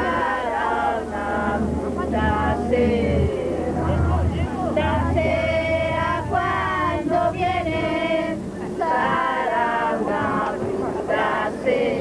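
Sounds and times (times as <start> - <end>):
group singing in unison: 0.0 - 12.0.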